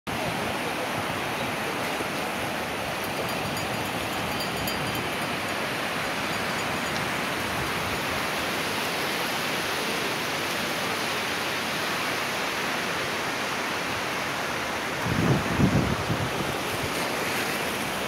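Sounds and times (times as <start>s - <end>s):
small waves breaking on beach: 0.1s - 18.0s.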